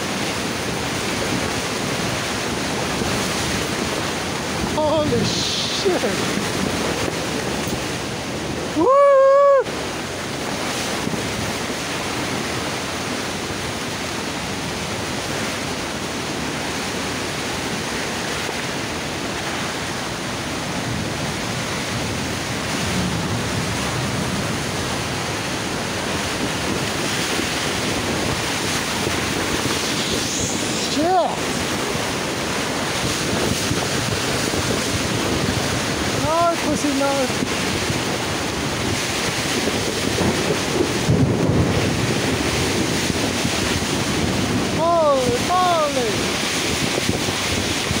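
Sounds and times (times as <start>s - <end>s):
heavy rain lashing a tent: 0.0s - 48.0s
storm wind: 0.0s - 48.0s
wind buffeting the microphone: 0.0s - 48.0s.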